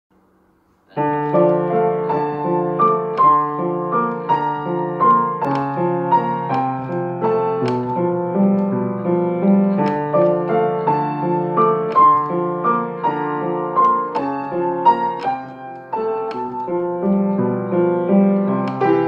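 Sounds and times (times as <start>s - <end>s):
piano playing: 0.9s - 19.0s.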